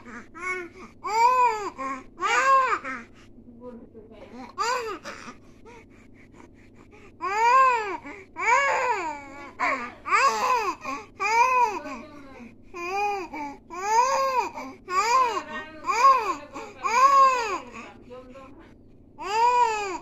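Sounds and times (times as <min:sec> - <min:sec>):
baby vocalizing: 0:00.0 - 0:03.1, 0:04.3 - 0:17.8, 0:19.2 - 0:20.0.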